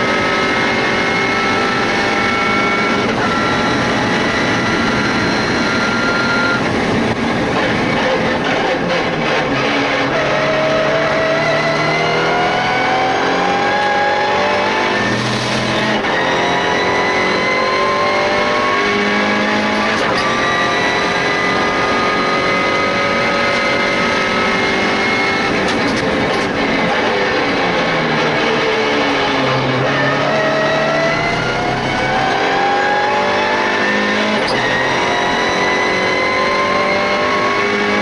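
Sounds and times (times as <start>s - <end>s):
race car engine at full throttle: 0.0s - 38.0s.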